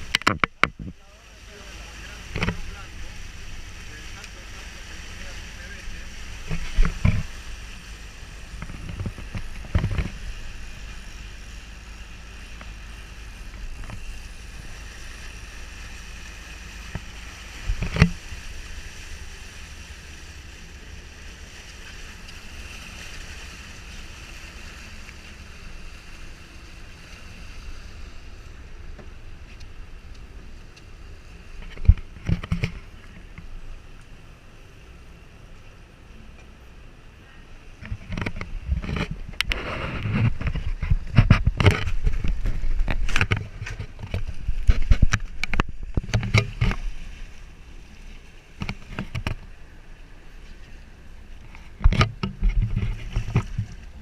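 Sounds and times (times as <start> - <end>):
boat hull rumble and water hiss: 0.0 - 54.0.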